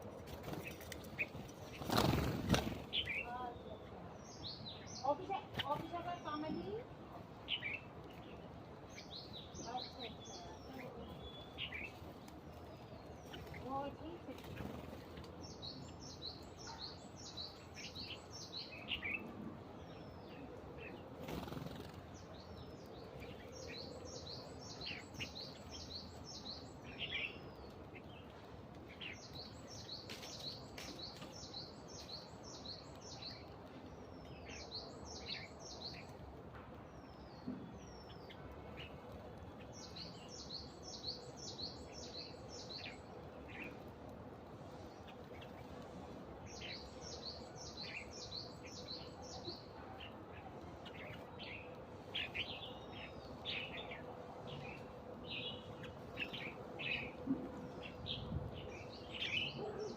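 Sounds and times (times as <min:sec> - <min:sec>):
birds chirping rapidly: 0:00.0 - 0:59.9.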